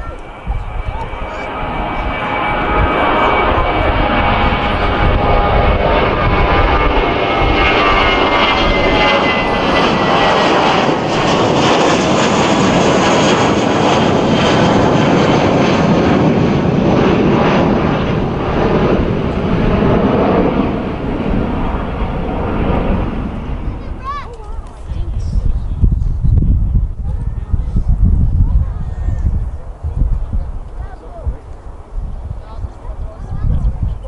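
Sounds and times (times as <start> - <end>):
high engine whine: 0.0 - 27.3
jet engines roaring: 0.0 - 34.0.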